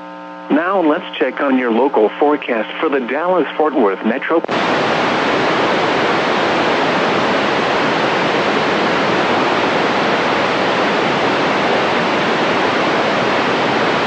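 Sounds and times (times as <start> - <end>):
radio static hiss: 0.4 - 14.0.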